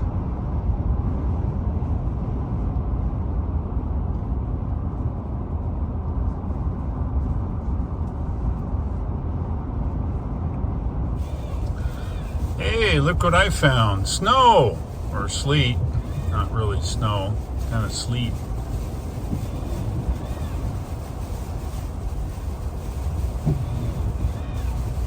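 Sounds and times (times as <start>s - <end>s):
road and tyre noise: 0.0s - 25.0s.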